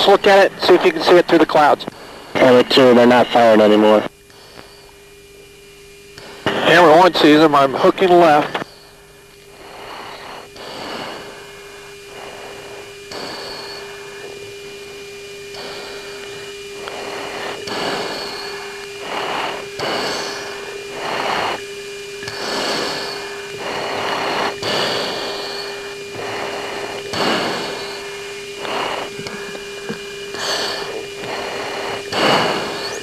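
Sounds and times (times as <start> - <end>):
breathing into oxygen mask: 0.0 - 3.2, 4.3 - 5.1, 6.0 - 7.4, 8.1 - 33.0
radio hiss: 0.0 - 33.0
steady hum-like tone: 0.0 - 33.0.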